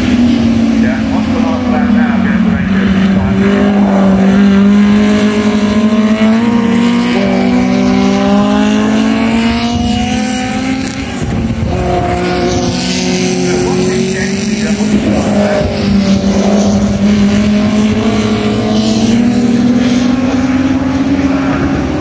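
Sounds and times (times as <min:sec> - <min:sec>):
racing car engines accelerating: 0:00.0 - 0:22.0.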